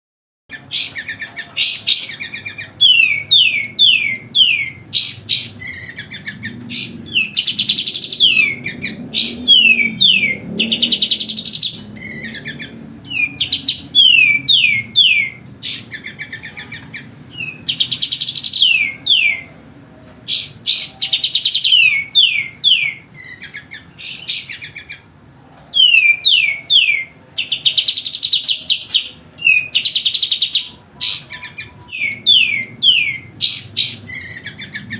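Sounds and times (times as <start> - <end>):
bird singing whistles and trills: 0.5 - 19.5, 20.3 - 25.1, 25.7 - 34.9.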